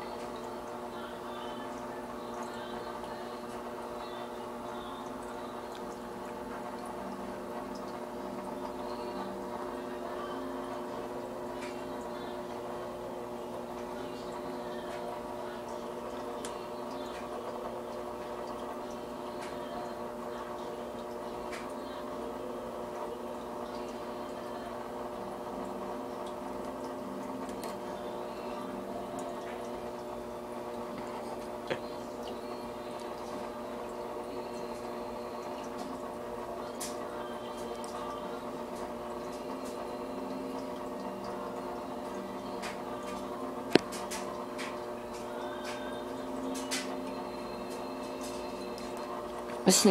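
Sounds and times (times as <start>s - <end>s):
filter pump humming: 0.0s - 49.9s
water trickling: 0.0s - 49.9s.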